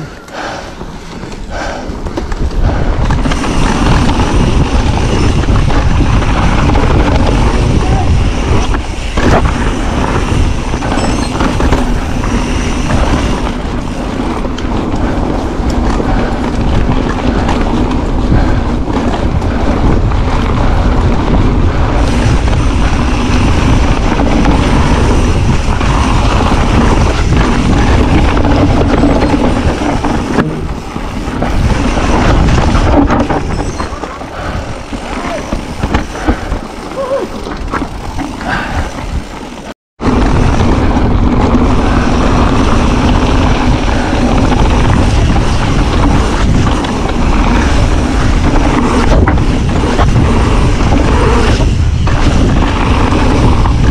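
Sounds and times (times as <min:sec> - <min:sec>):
bike tyre and frame noise: 0:00.0 - 0:53.9
wind buffeting microphone: 0:00.0 - 0:53.9.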